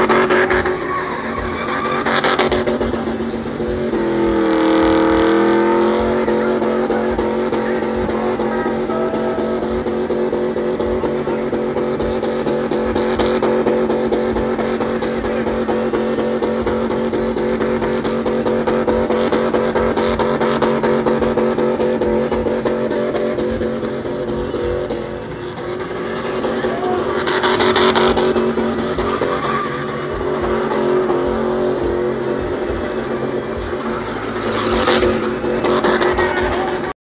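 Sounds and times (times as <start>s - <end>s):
car engine at high revs: 0.0s - 37.0s.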